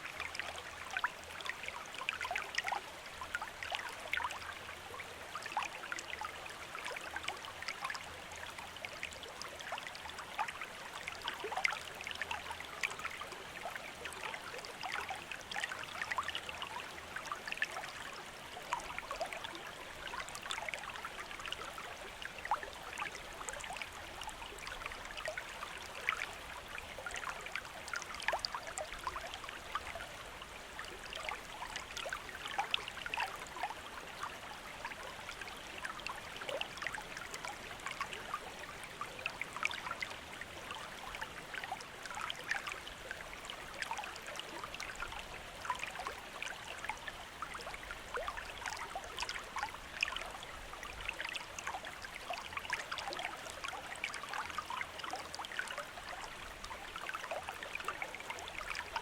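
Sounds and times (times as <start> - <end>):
stream babbling and trickling: 0.0 - 59.0.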